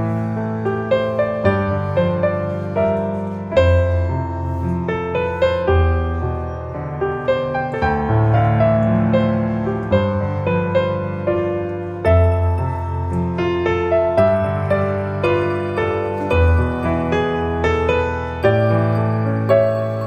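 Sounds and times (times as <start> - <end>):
soft slow piano music: 0.0 - 20.0.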